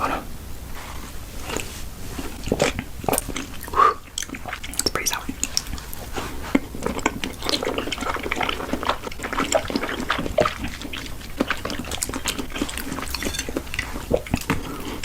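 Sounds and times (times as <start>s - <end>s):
wet mouth eating sounds: 0.9s - 15.0s.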